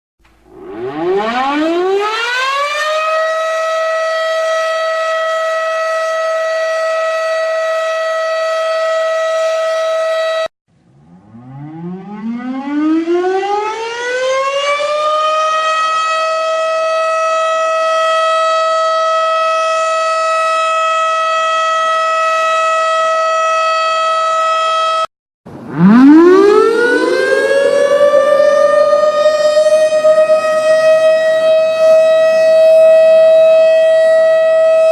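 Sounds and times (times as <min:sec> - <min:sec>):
synthesized siren whine: 0:00.4 - 0:34.9.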